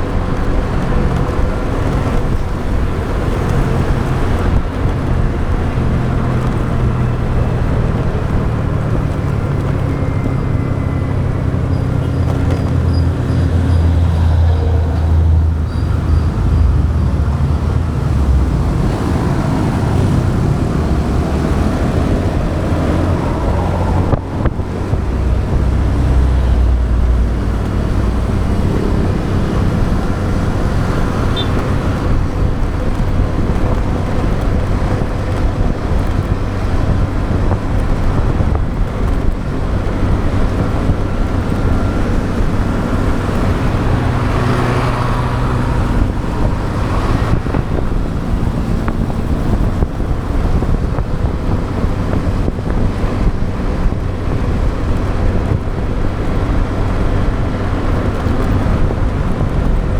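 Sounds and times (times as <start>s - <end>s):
motorbike engine running: 0.0s - 59.9s
passing traffic engines: 0.0s - 59.9s
wind buffeting microphone: 0.0s - 59.9s.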